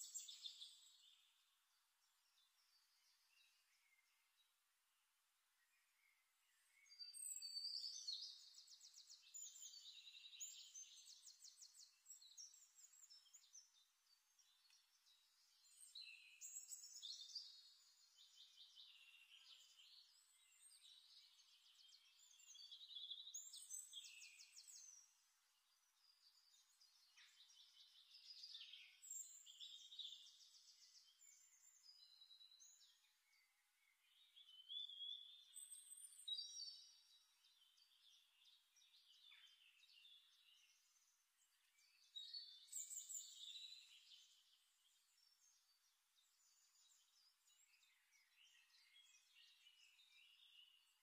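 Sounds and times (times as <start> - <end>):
songbird singing faintly: 0.0 - 51.0.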